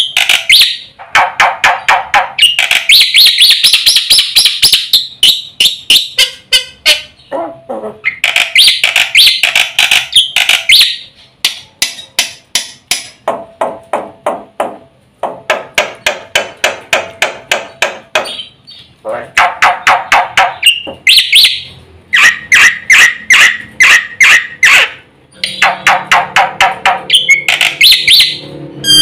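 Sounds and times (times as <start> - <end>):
bird chattering: 0.0 - 13.2, 17.5 - 29.0.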